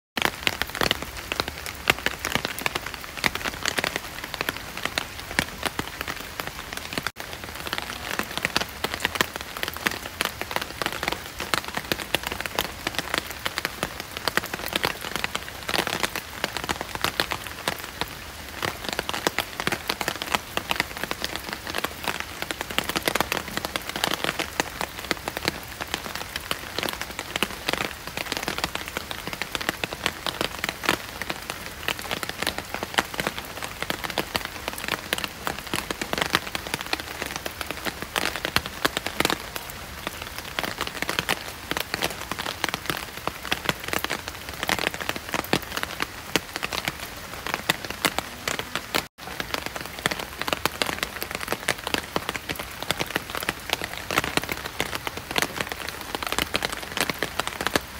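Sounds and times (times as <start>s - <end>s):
steady rain falling: 0.2s - 57.9s.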